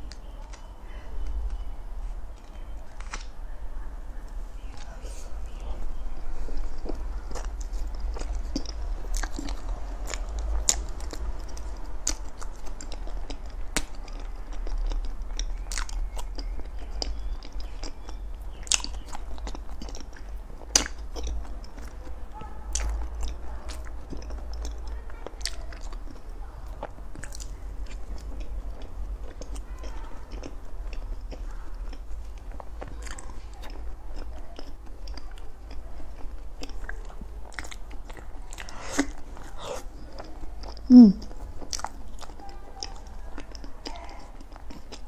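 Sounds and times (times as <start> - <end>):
wet chewing: 4.2 - 45.0
lip smacks and clicks: 6.5 - 45.0.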